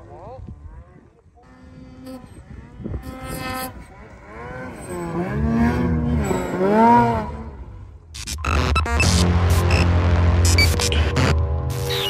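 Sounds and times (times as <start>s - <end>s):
snowmobile engine revving: 1.4s - 12.0s.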